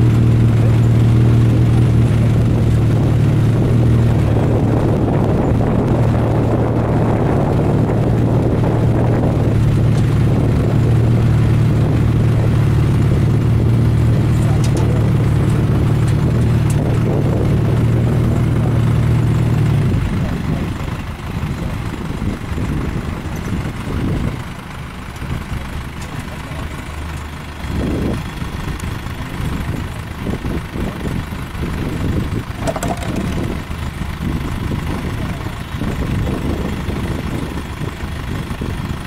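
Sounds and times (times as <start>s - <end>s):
truck engine humming: 0.0s - 39.0s.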